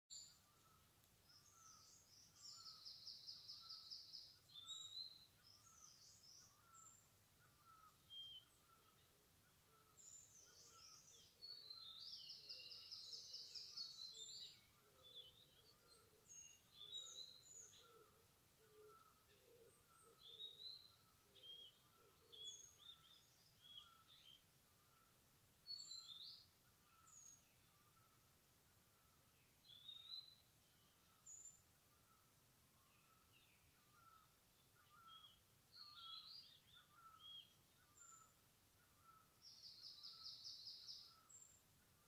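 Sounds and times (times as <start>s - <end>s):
birds chirping: 0.1s - 42.0s.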